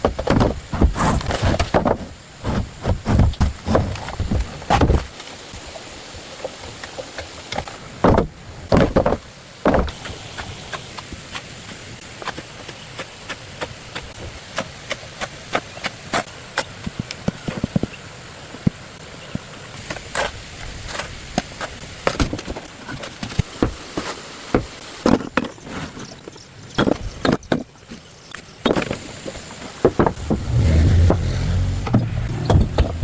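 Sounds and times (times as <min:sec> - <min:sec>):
steady hiss: 0:00.0 - 0:25.3, 0:27.8 - 0:33.0.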